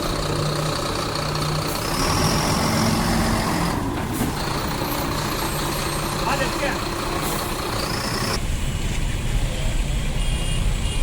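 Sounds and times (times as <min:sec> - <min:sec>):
heavy truck engine running: 0:00.0 - 0:10.0.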